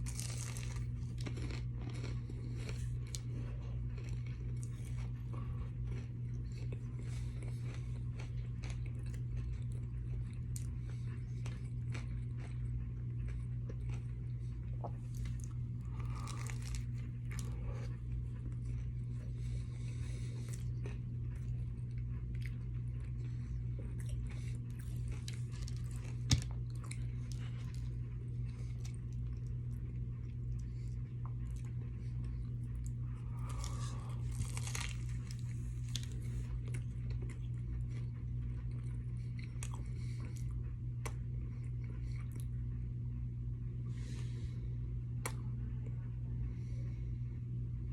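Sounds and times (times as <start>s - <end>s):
crunching and chewing: 0.0s - 47.0s
steady low hum: 0.0s - 47.9s.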